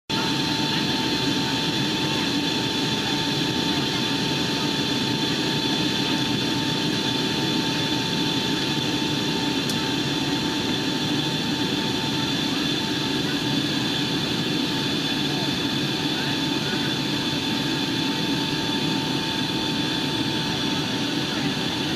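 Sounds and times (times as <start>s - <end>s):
jet engine and airflow rush: 0.1s - 21.9s
steady whine: 0.2s - 21.9s.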